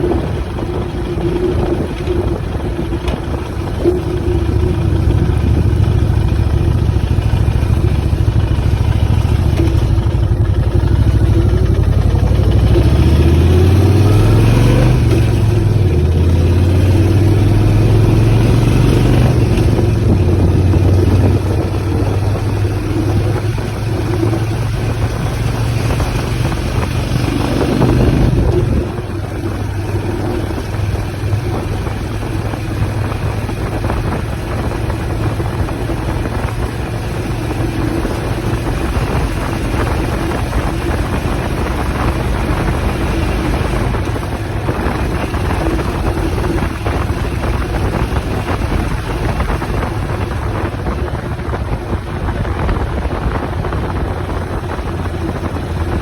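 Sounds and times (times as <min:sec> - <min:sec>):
motorcycle engine running: 0:00.0 - 0:56.0
road noise: 0:00.0 - 0:56.0
rushing wind: 0:00.0 - 0:56.0.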